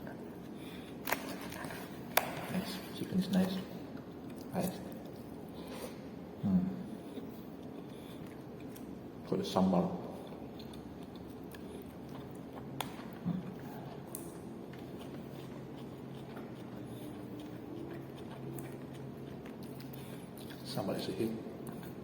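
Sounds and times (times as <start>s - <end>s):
faint chewing: 0.0s - 6.0s, 6.9s - 9.1s, 10.0s - 20.8s, 21.6s - 22.0s
low steady hum: 0.0s - 22.0s.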